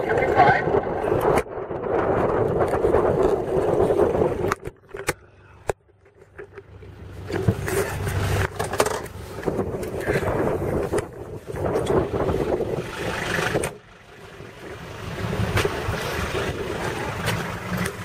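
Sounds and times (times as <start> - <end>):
truck engine rumble from cab: 1.0 - 18.0.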